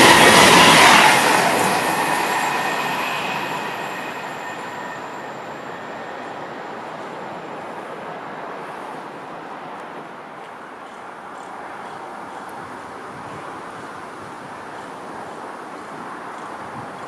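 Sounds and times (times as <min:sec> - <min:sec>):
train passing: 0:00.0 - 0:16.6.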